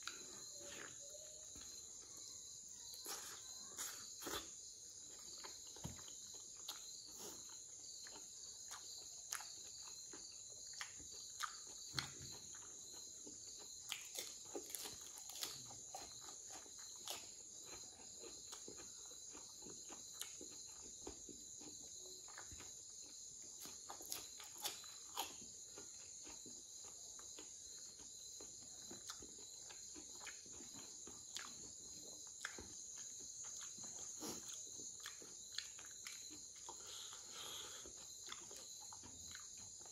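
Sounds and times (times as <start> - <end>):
chewing and lip-smacking: 0.0 - 39.9
crickets chirping: 0.0 - 39.9.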